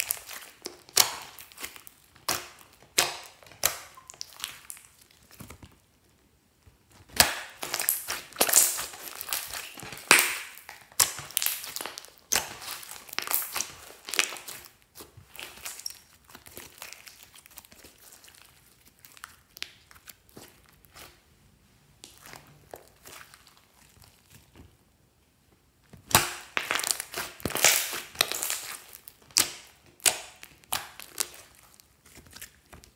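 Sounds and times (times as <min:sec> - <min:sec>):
slime squishing and crackling: 0:00.0 - 0:21.4, 0:22.0 - 0:24.9, 0:25.8 - 0:32.9.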